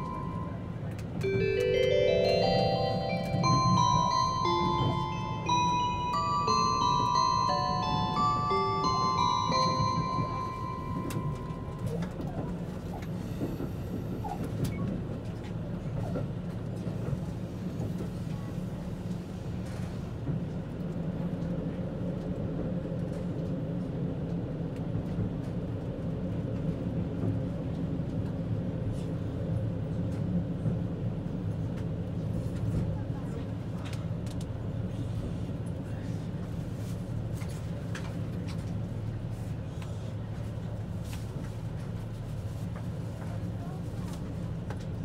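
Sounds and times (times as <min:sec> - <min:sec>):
wheel and rail rumble: 0:00.0 - 0:45.0.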